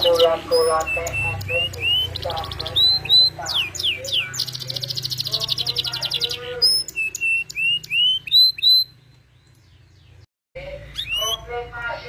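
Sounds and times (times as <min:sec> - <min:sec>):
canary singing trills and chirps: 0:00.0 - 0:12.0.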